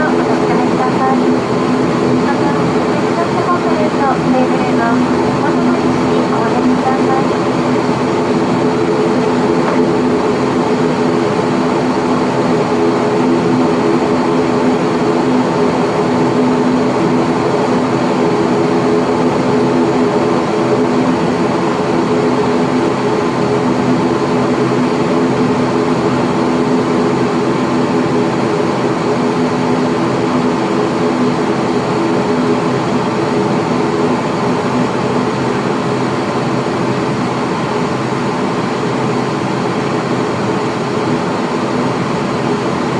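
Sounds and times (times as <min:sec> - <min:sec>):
broad rush of noise: 0:00.0 - 0:42.9
loud propeller drone: 0:00.0 - 0:42.9
low engine hums: 0:00.0 - 0:42.9.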